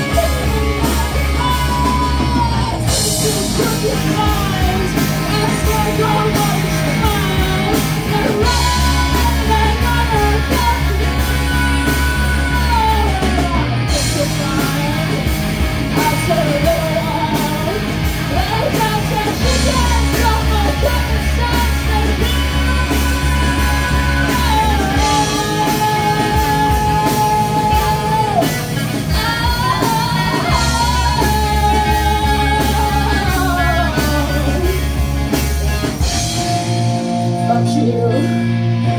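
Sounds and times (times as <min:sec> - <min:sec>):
person singing: 0:00.0 - 0:35.0
bass guitar: 0:00.0 - 0:38.9
drums: 0:00.0 - 0:38.9
electric guitars: 0:00.0 - 0:38.9.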